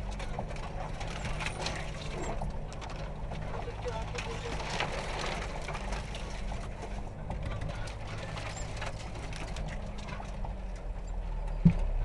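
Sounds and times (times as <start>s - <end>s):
engine running at low revs: 0.0s - 12.0s
vehicle rattles and knocks: 0.0s - 12.0s.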